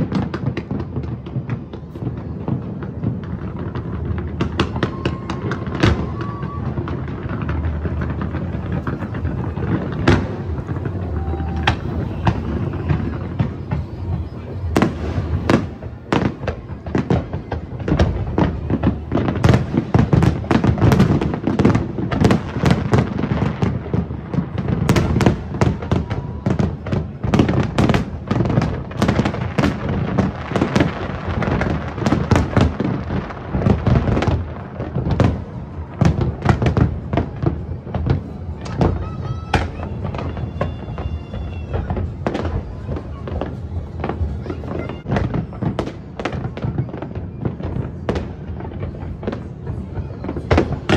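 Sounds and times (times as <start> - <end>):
fireworks bursts and crackles: 0.0 - 50.9.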